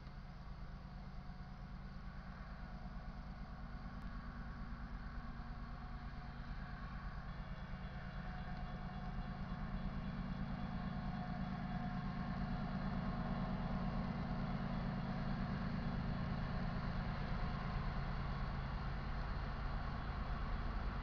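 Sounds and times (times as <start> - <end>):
diesel locomotive rumble: 0.0 - 21.0.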